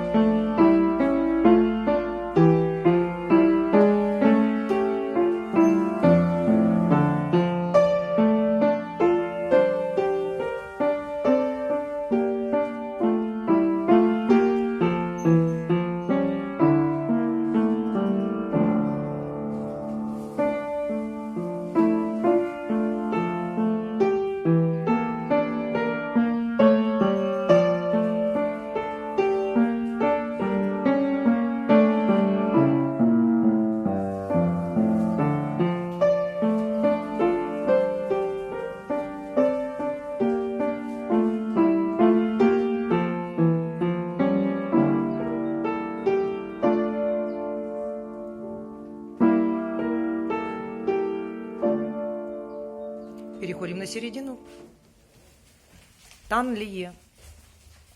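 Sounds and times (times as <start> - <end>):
piano playing notes and chords: 0.0 - 55.4.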